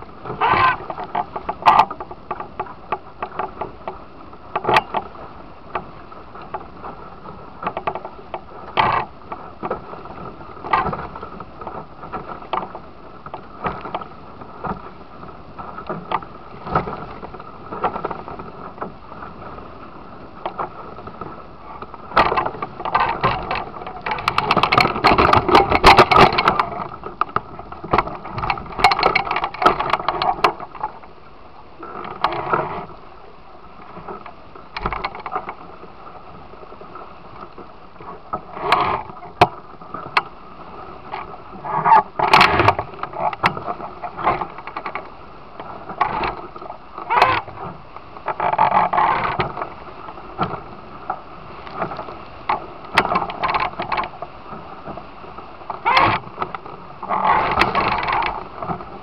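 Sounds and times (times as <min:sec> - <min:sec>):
water slapping against boat hull: 0:00.0 - 0:31.2, 0:33.7 - 0:59.0.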